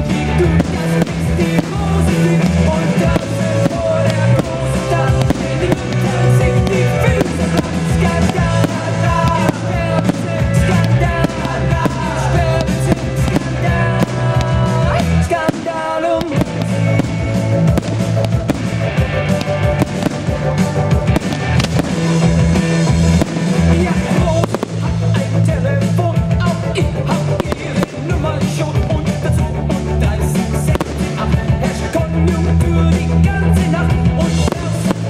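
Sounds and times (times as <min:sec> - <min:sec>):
fireworks bursting and crackling: 0:00.0 - 0:35.0
music with bass line and melody: 0:00.0 - 0:35.0.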